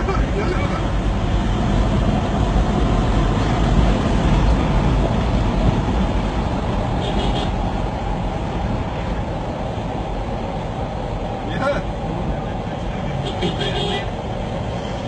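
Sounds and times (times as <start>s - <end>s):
highway traffic rumble: 0.0s - 15.0s.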